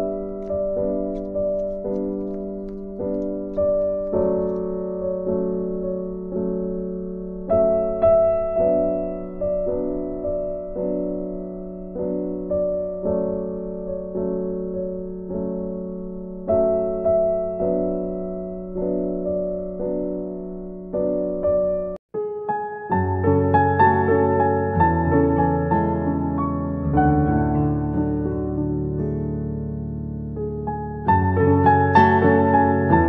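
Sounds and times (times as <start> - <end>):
soft piano chords: 0.0 - 33.0.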